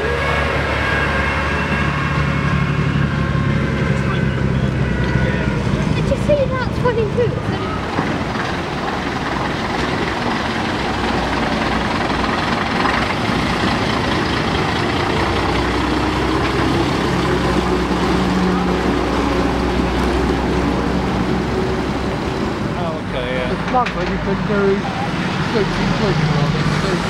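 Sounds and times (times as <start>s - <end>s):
bus diesel engine droning: 0.0s - 27.0s.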